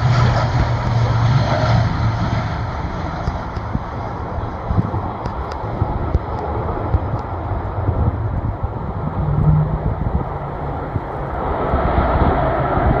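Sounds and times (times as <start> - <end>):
turboprop airliner rushing noise: 0.0 - 13.0
wind buffeting microphone: 0.0 - 13.0.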